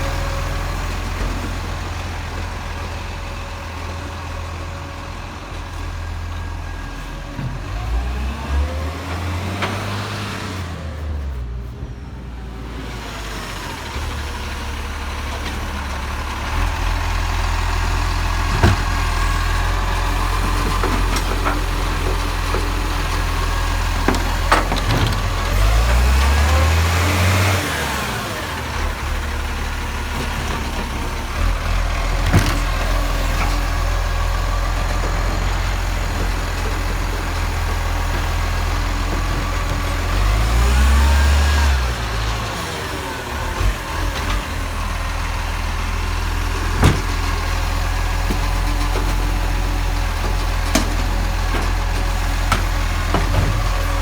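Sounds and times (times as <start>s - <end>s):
garbage truck engine running: 0.0s - 54.0s.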